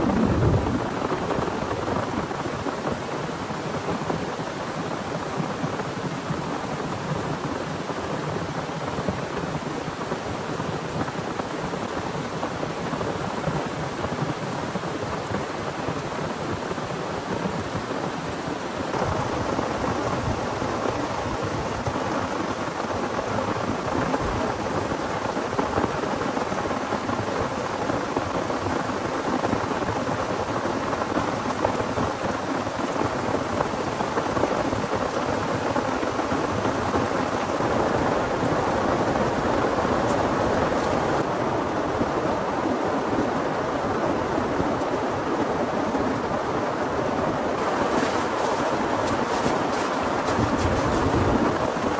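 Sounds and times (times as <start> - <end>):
heavy rain: 0.0 - 51.9.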